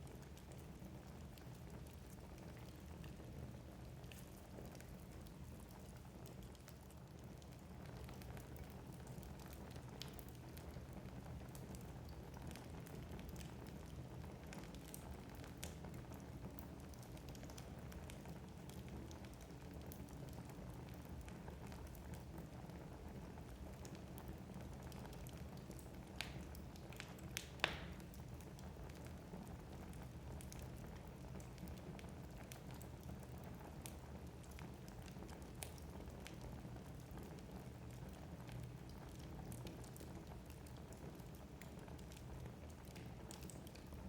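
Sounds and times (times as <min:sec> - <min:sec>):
wood crackling and popping: 0:00.1 - 0:44.0.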